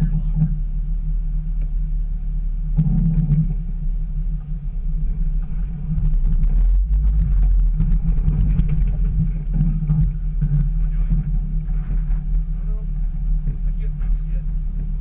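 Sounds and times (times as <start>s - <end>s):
engine droning at crawling speed: 0.0s - 15.0s.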